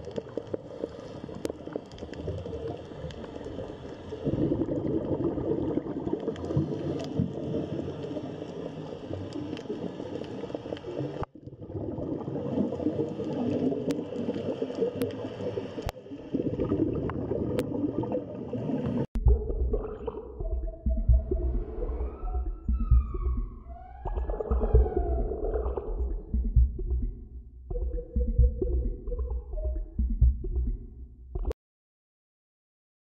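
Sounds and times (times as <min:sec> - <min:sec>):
underwater bubbling and gurgling: 0:00.0 - 0:31.5.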